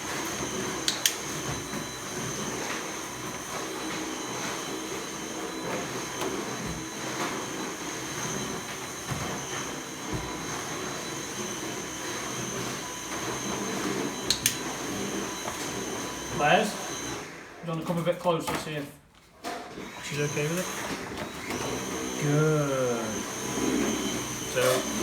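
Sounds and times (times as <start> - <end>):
vacuum cleaner running: 0.0 - 18.7, 19.4 - 25.0.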